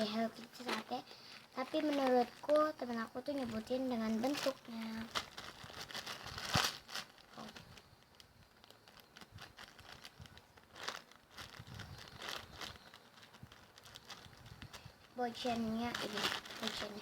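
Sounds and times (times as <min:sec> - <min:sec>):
plastic crinkling: 0:00.0 - 0:17.0.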